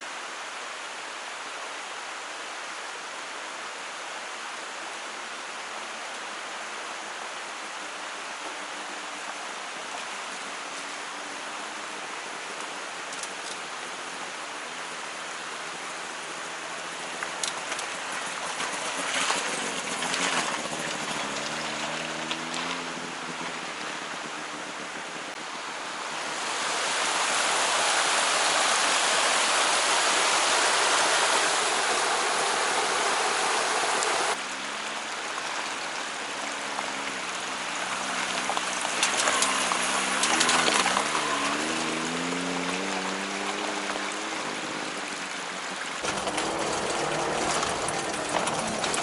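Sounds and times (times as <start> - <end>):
stream and waterfall rushing: 0.0 - 49.0.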